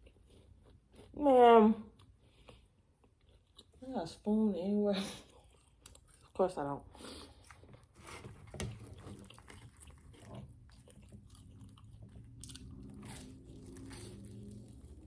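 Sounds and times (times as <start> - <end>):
person chewing food: 0.0 - 1.2, 1.9 - 3.8, 5.2 - 15.0.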